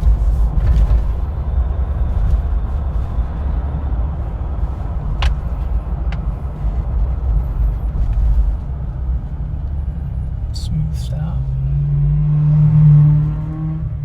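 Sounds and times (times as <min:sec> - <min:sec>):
diesel engine low rumble: 0:00.0 - 0:14.0
tyres on the road: 0:00.0 - 0:14.0.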